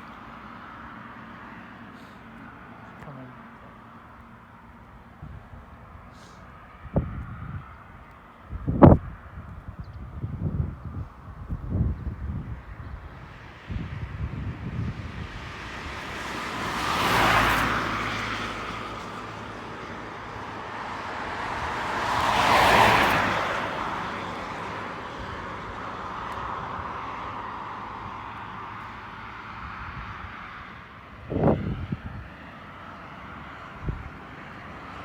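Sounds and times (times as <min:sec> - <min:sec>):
vehicles passing: 0:00.0 - 0:35.0.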